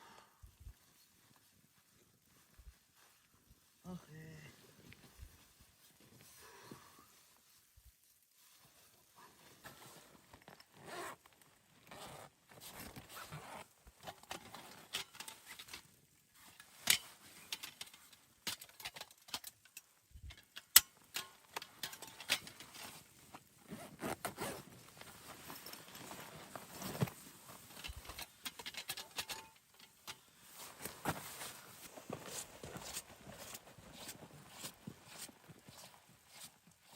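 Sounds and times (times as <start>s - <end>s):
scraping and rustling handling noise: 4.5s - 36.9s.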